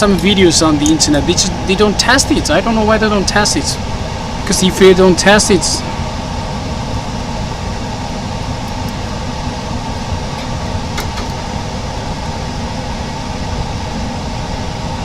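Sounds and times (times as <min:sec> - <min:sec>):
mechanical hum with rushing noise: 0:00.0 - 0:15.0.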